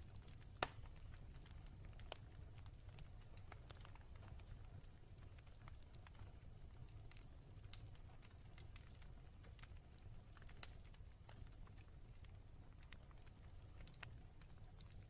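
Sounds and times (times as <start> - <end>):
low steady fire rumble: 0.0 - 15.0
wood fire crackling: 0.0 - 15.0.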